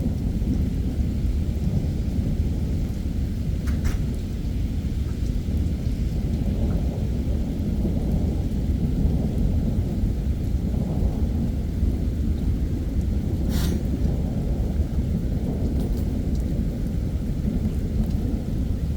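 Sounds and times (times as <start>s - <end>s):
heavy rain falling: 0.0s - 18.9s
thunder rumbling: 0.0s - 18.9s.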